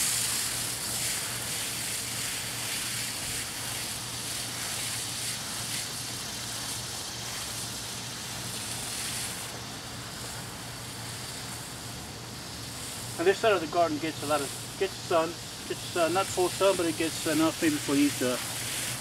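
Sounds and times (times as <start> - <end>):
hose water spraying on soil: 0.0 - 19.0.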